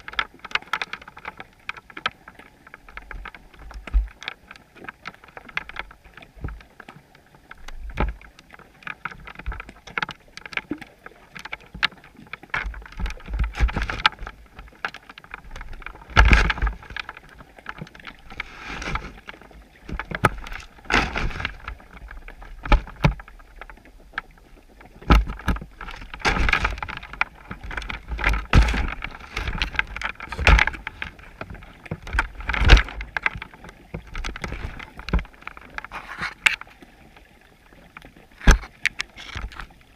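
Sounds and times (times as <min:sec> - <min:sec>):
muffled underwater knocks and clicks: 0:00.0 - 0:39.9
underwater water surges: 0:00.0 - 0:39.9.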